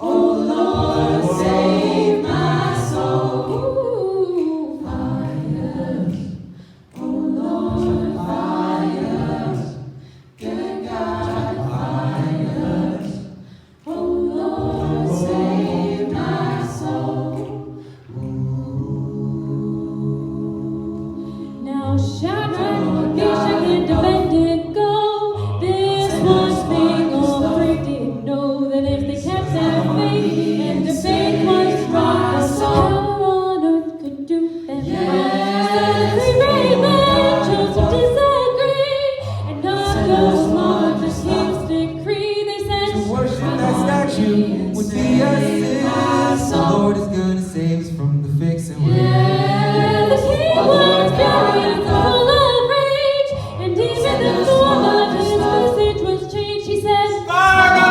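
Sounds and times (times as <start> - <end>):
a cappella vocal ensemble singing: 0.0 - 57.9.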